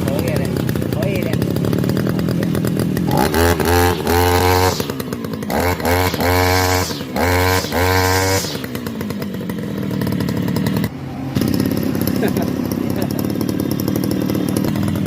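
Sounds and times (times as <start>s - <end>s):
brush cutter engine revving: 0.0s - 15.0s.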